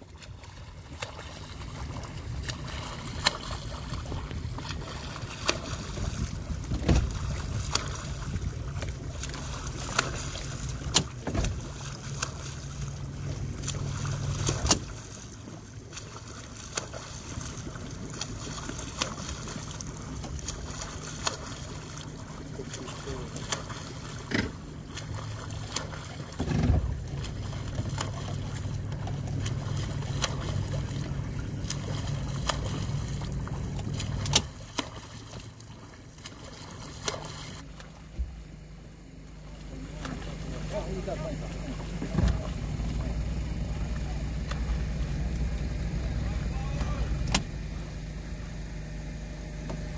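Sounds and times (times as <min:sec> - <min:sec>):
water splashing: 0:00.0 - 0:47.9
motorboat engine humming: 0:00.0 - 0:49.9.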